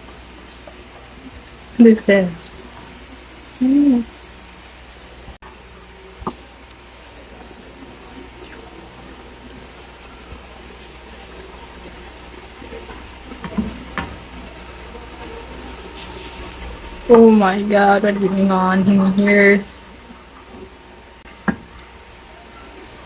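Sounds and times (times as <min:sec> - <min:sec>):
egg sizzling in a pan: 0:00.0 - 0:23.0.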